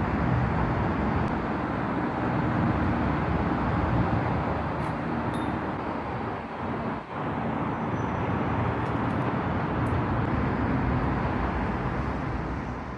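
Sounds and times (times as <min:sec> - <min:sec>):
traffic noise: 0:00.0 - 0:12.9.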